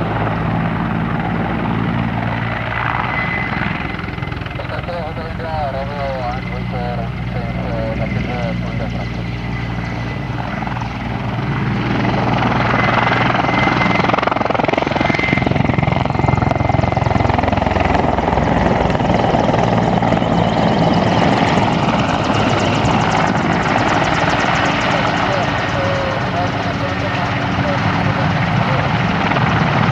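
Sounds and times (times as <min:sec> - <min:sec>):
helicopter rotor chopping: 0:00.0 - 0:29.9.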